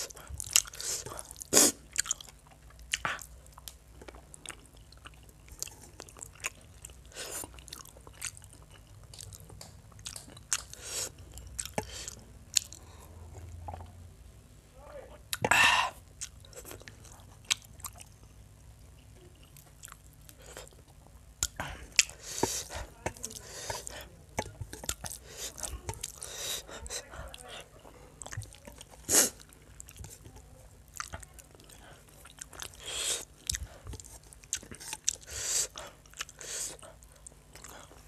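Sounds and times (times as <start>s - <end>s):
chewing with wet mouth clicks: 0.1s - 14.0s, 16.1s - 18.3s, 18.9s - 27.5s, 28.2s - 38.0s.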